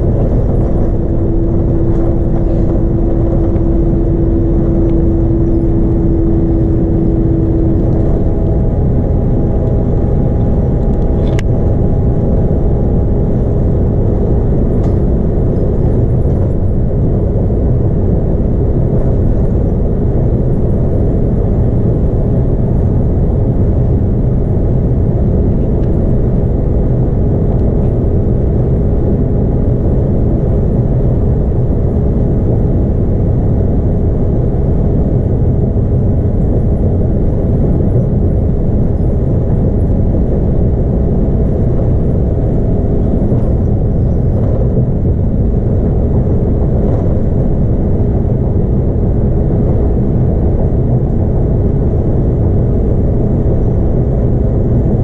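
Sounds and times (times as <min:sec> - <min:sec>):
bus diesel engine drone: 0:00.0 - 0:55.0
road and tyre noise: 0:00.0 - 0:55.0.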